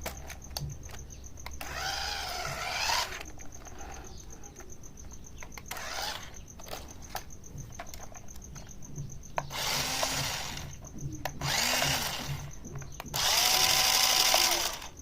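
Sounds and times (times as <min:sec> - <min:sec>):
toy car electric motors whirring: 0:00.0 - 0:04.6, 0:05.4 - 0:08.3, 0:09.4 - 0:15.0.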